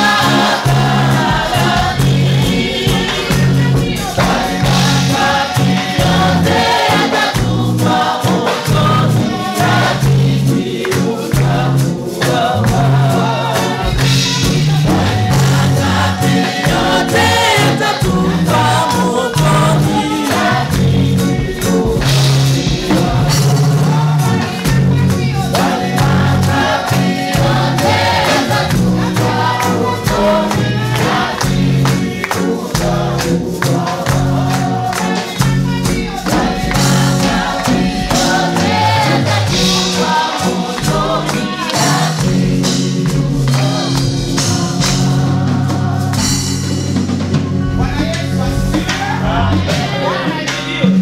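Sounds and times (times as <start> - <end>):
band playing beat and bass: 0.0 - 51.0
choir singing: 0.0 - 51.0.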